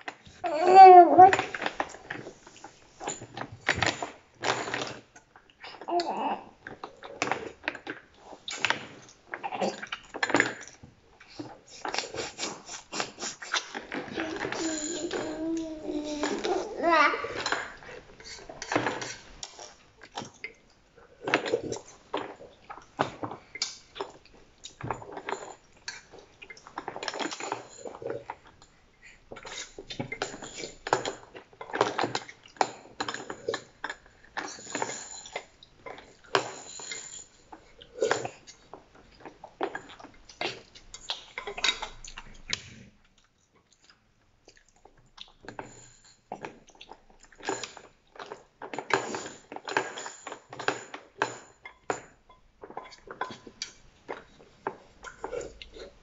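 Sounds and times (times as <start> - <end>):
baby chewing on teething toy: 3.0 - 56.0.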